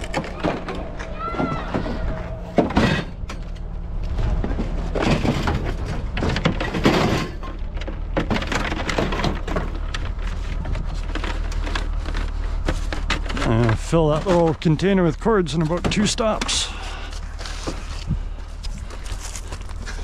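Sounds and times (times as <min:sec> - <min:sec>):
scrap items clattering: 0:00.0 - 0:20.0
steady low hum: 0:01.9 - 0:20.0.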